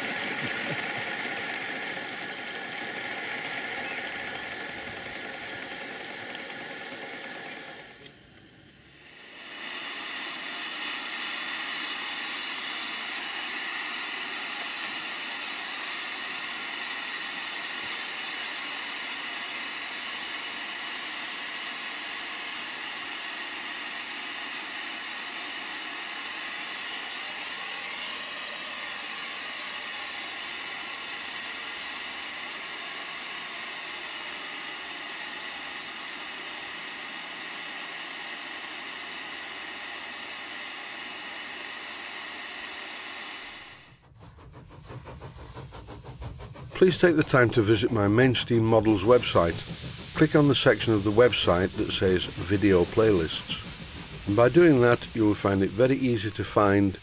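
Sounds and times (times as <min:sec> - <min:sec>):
steam hissing: 0:00.0 - 0:57.0.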